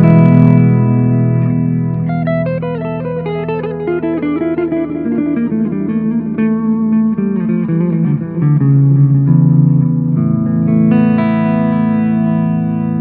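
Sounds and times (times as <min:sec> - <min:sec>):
electric guitar with delay echo: 0:00.0 - 0:13.0.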